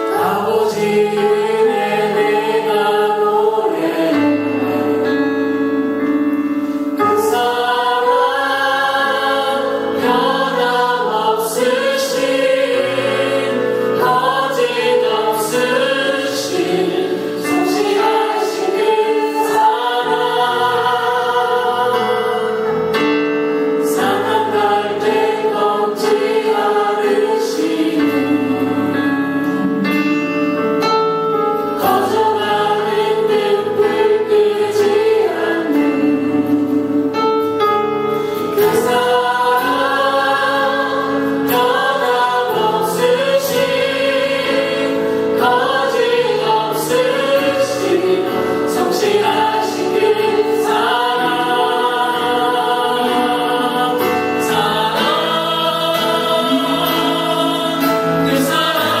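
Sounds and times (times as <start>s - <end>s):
choir singing worship song: 0.0s - 59.0s
instrumental accompaniment: 0.0s - 59.0s.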